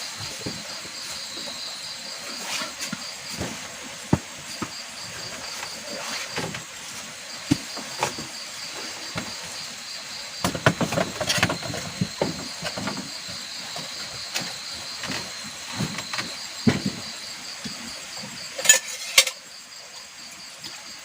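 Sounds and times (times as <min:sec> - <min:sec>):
handling knocks and clatters: 0:00.0 - 0:08.4, 0:10.4 - 0:19.4
insects chirping in pulsing trill: 0:00.0 - 0:21.0.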